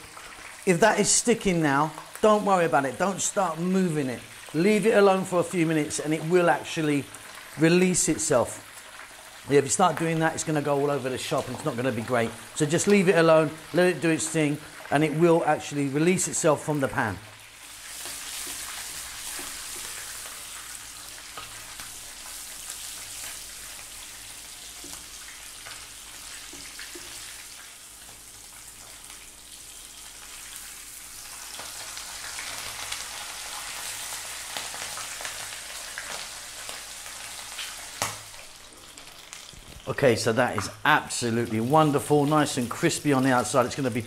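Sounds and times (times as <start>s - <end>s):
fish frying in sizzling oil: 0.0s - 15.3s, 16.3s - 44.0s.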